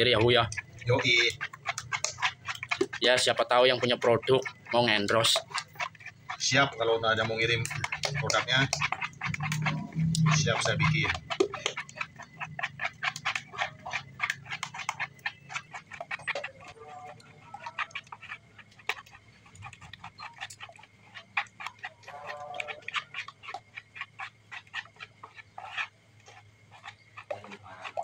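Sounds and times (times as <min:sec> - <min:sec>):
spatula scraping plastic bowl: 0:00.0 - 0:28.0.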